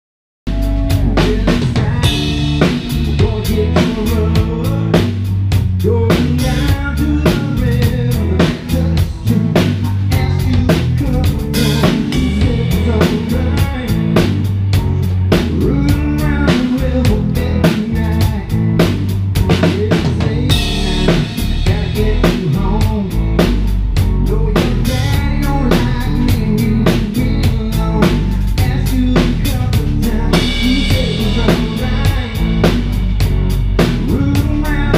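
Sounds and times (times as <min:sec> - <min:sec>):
drum kit beat: 0:00.5 - 0:34.9
live band playing: 0:00.5 - 0:34.9.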